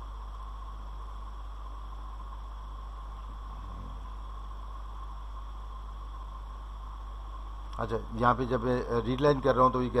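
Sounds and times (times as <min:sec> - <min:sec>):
faint hiss: 0:00.0 - 0:10.0
low electrical hum: 0:00.0 - 0:10.0.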